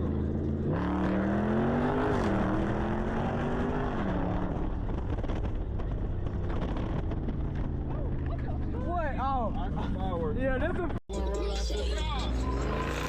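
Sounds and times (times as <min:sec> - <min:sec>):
road and wind noise: 0:00.0 - 0:11.0, 0:11.9 - 0:13.0
car engine accelerating: 0:00.0 - 0:13.0.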